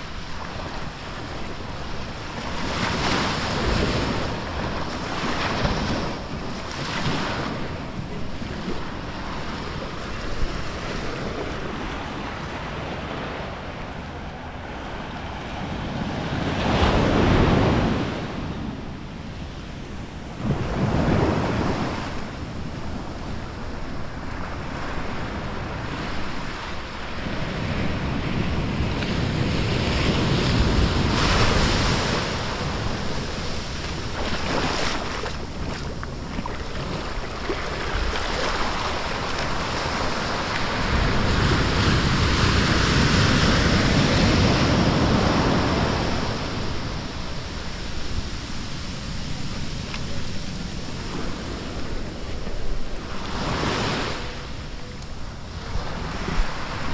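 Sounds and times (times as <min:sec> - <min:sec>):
surf breaking on sand: 0:00.0 - 0:56.9
wind buffeting microphone: 0:00.0 - 0:56.9.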